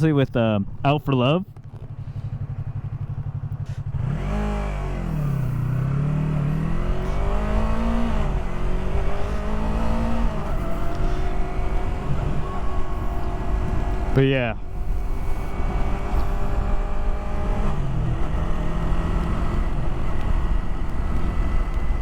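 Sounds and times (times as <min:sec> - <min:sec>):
motorcycle engine revving: 0:01.5 - 0:22.0.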